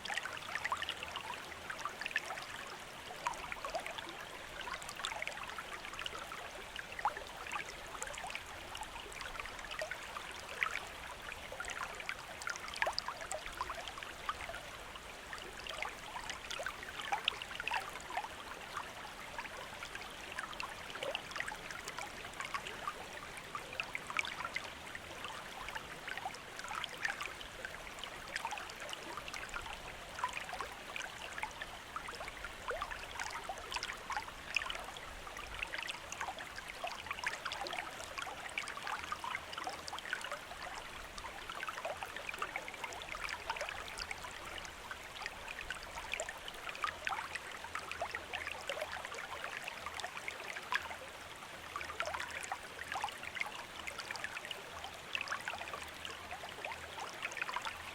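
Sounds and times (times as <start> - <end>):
stream running over stones: 0.0 - 57.9.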